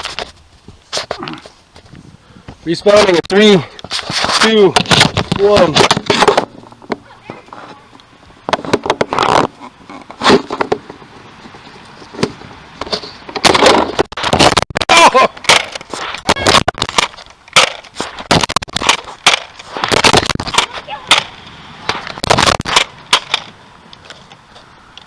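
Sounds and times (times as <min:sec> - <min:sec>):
clatter and scuffling: 0:00.0 - 0:03.1, 0:03.8 - 0:14.8, 0:15.4 - 0:24.7.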